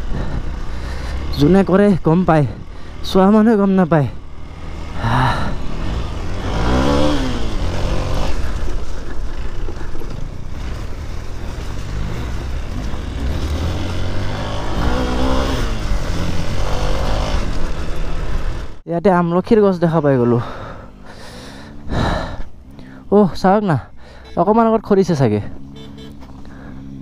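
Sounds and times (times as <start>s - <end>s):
dirt bike engine: 0.0s - 18.8s, 19.6s - 27.0s.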